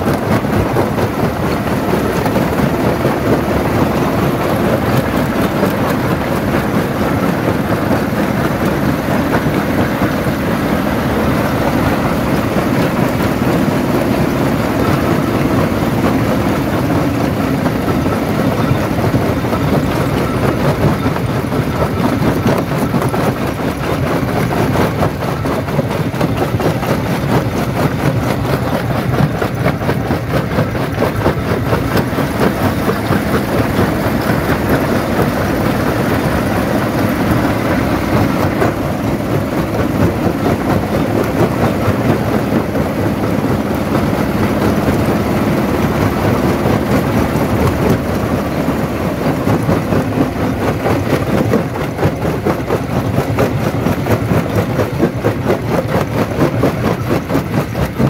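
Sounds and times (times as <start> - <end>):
rock crusher rumbling and knocking: 0.0 - 58.0.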